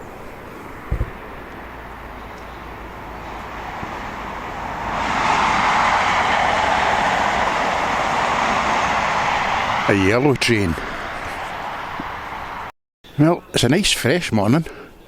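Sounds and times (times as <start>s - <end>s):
train passing rumble: 0.0s - 12.8s.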